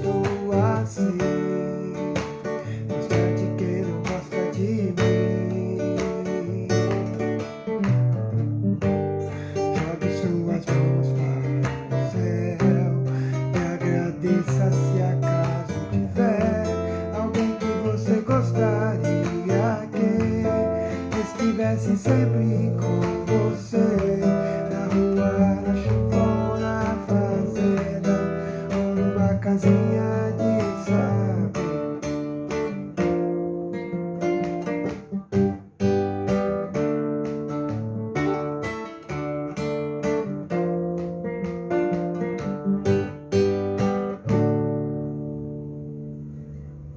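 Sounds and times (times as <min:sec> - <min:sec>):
acoustic guitar strumming chords: 0:00.0 - 0:46.9.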